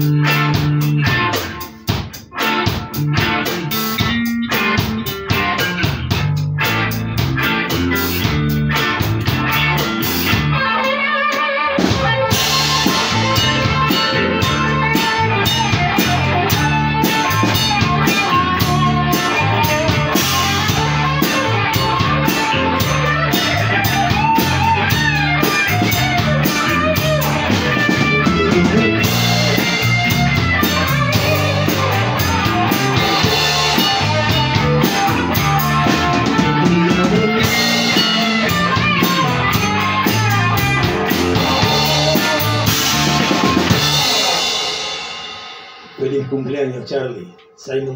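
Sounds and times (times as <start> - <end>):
live rock band playing: 0.0 - 46.8.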